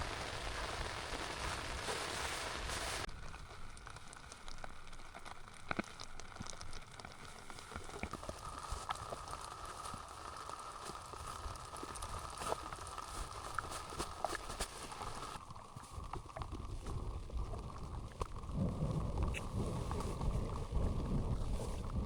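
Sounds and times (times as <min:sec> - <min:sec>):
faint steady hiss: 0:00.0 - 0:22.0
light rain drops ticking: 0:00.0 - 0:22.0.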